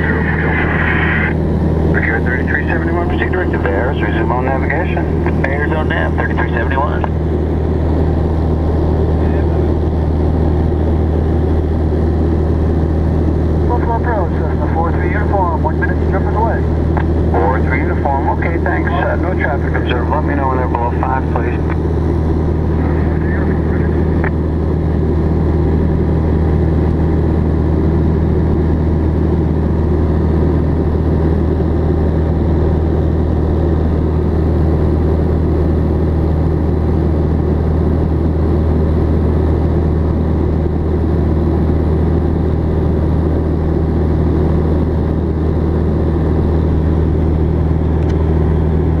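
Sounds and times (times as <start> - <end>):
aircraft engine and propeller drone: 0.0 - 49.0.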